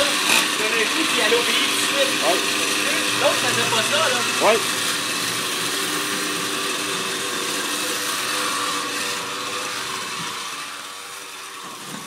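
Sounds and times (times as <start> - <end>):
small motor whirring: 0.0 - 12.0.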